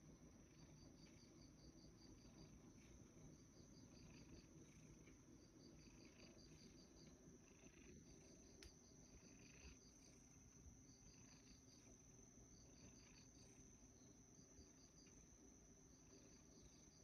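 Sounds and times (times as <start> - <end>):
insect chirping: 0.3 - 17.0.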